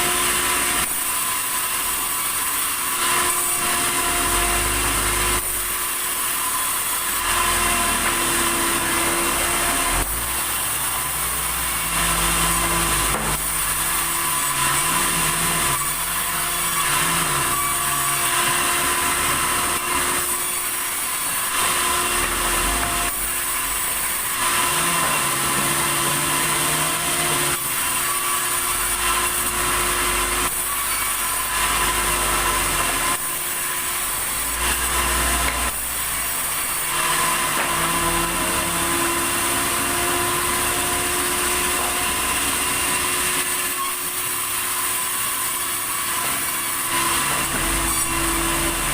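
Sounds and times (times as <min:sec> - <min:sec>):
sawmill saw cutting timber: 0:00.0 - 0:48.9.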